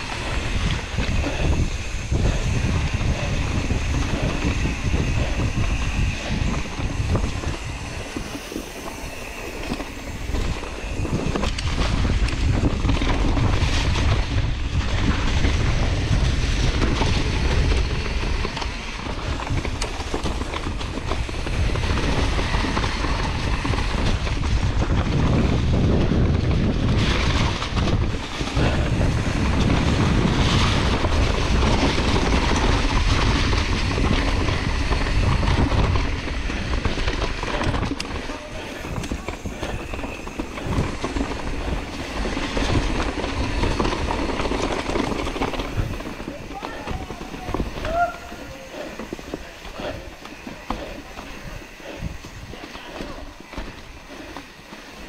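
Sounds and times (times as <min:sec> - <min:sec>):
bike rattling over bumps: 0:00.0 - 0:55.0
bike tyres rolling over leaves: 0:00.0 - 0:55.0
wind buffeting microphone: 0:00.0 - 0:55.0.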